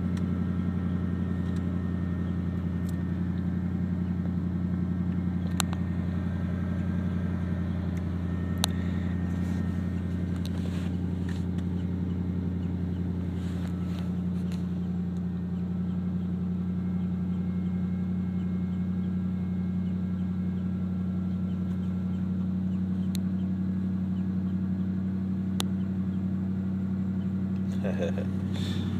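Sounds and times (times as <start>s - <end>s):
pickup truck engine idling: 0.0s - 28.9s.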